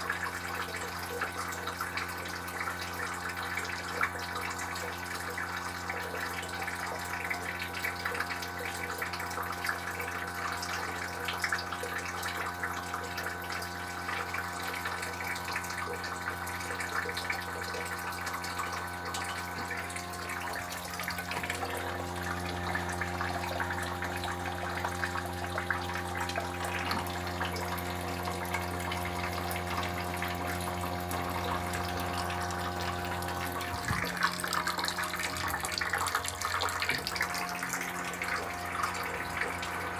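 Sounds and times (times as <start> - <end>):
air conditioner hum with tones: 0.0 - 39.9.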